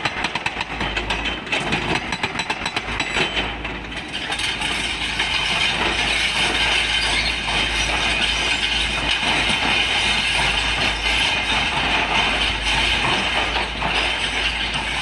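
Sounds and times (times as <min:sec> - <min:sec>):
diesel engine: 0:00.0 - 0:15.0.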